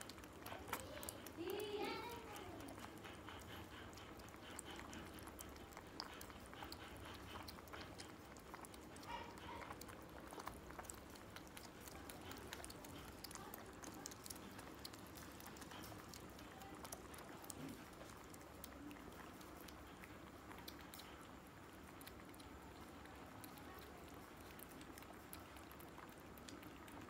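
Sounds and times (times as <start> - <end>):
cats lapping milk: 0.0 - 27.0.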